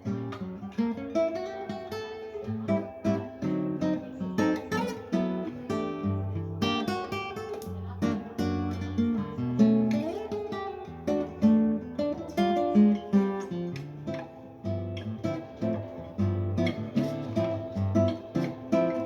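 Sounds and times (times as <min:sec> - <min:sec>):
fingerstyle classical guitar: 0:00.0 - 0:19.0.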